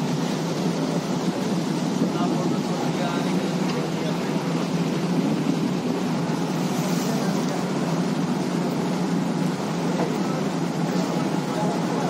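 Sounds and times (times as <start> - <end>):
ship engine drone: 0.0 - 12.0
wind and water hiss: 0.0 - 12.0.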